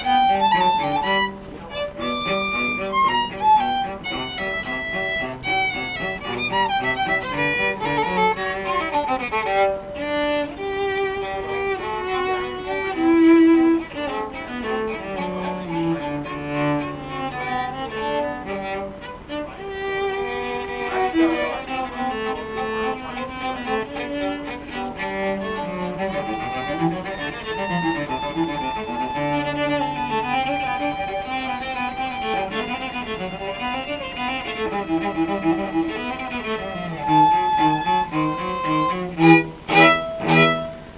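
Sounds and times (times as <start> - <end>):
cello low notes: 0.0 - 40.9
violin melody: 0.0 - 40.9.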